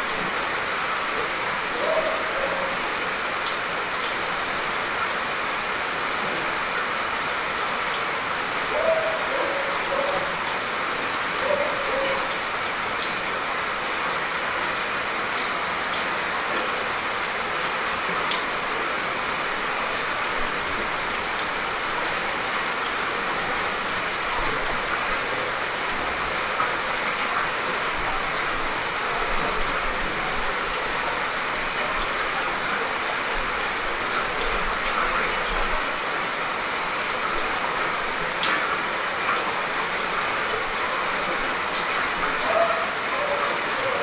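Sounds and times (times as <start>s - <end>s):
light rain falling: 0.0s - 44.0s.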